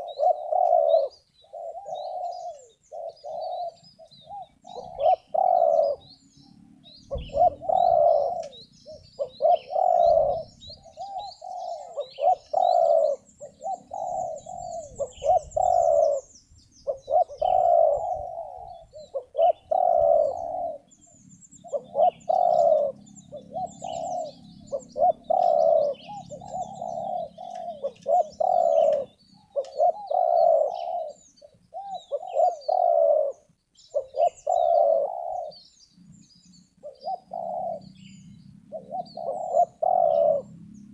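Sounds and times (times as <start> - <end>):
dove cooing: 0.0 - 35.8, 36.8 - 40.9
small birds chirping: 0.0 - 40.9.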